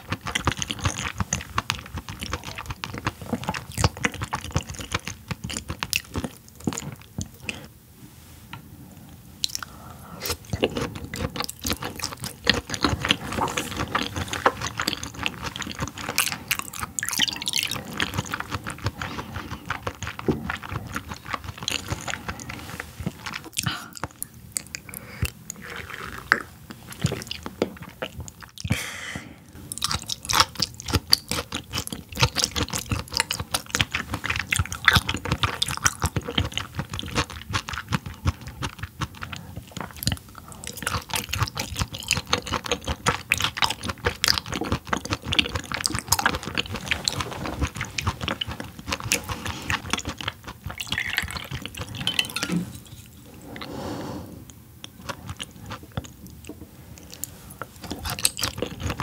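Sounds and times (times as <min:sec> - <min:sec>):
wet chewing of raw fish: 0:00.0 - 0:07.7, 0:09.4 - 0:28.8, 0:29.6 - 0:59.0.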